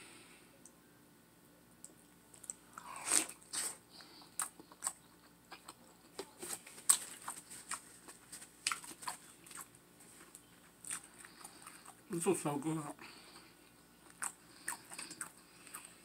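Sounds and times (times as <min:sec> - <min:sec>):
person chewing meat: 0:01.8 - 0:16.0.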